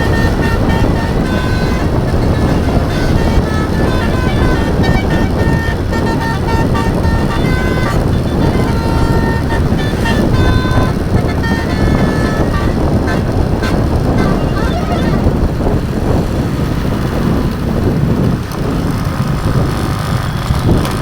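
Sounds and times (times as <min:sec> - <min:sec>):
musical air horn: 0:00.0 - 0:17.4
engine and road rumble: 0:00.0 - 0:21.0.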